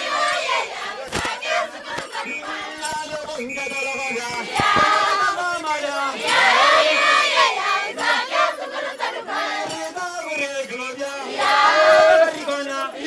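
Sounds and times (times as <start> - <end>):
crowd singing and cheering: 0.0 - 13.0.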